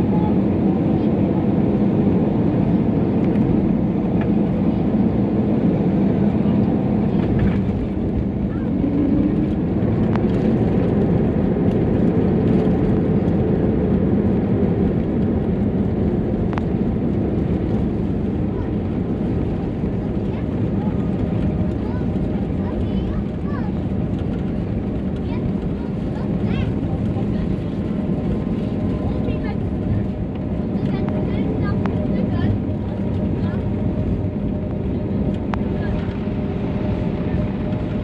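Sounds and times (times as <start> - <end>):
airliner engine roar in cabin: 0.0 - 38.0.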